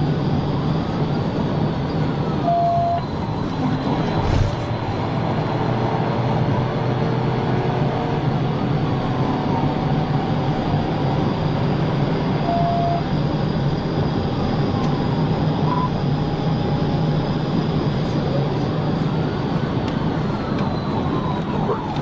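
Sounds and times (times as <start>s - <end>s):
car driving at speed: 0.0s - 22.0s.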